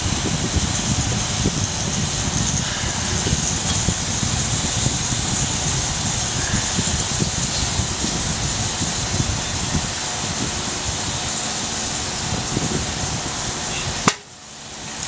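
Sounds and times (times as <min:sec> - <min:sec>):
fire crackles: 0:00.0 - 0:15.0
wood fire burning: 0:00.0 - 0:15.0.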